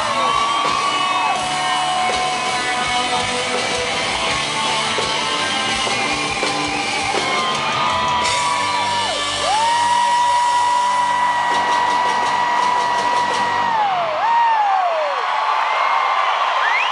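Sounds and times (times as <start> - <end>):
country rock band playing: 0.0 - 13.9
electric guitar bending long notes: 0.0 - 13.9.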